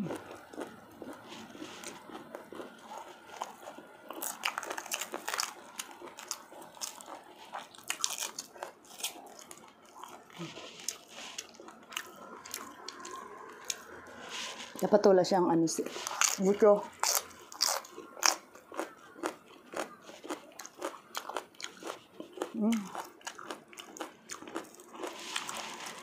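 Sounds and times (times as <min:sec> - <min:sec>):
crunchy biting and chewing: 0:00.0 - 0:14.8, 0:15.8 - 0:26.0.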